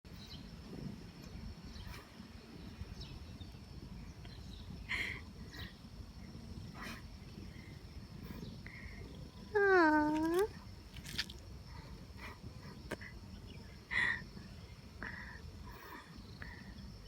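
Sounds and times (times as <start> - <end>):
high-pitched insect hum: 0.1 - 17.0.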